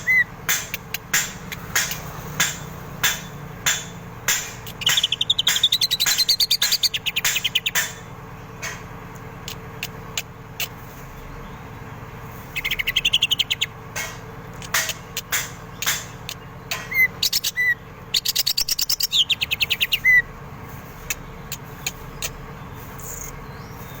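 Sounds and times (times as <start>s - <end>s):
bird rattling trills: 0.0s - 8.8s, 12.4s - 20.2s, 20.8s - 24.0s
bird sharp chips: 0.0s - 11.1s, 12.4s - 20.2s, 20.8s - 24.0s.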